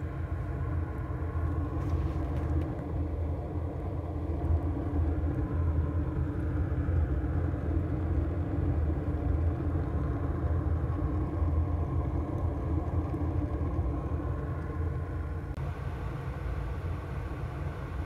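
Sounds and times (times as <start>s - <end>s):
boiler burner low rumble: 0.0s - 18.0s.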